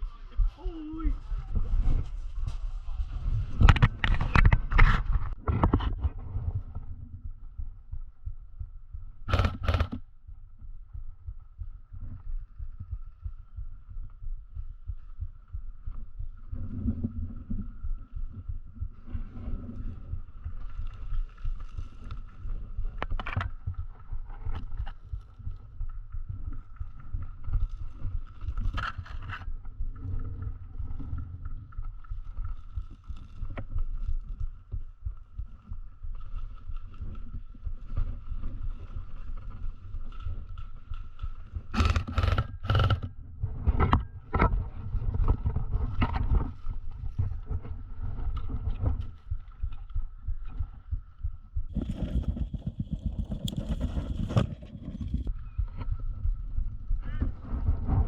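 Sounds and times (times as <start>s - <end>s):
low rumble of wind: 0.0s - 58.0s.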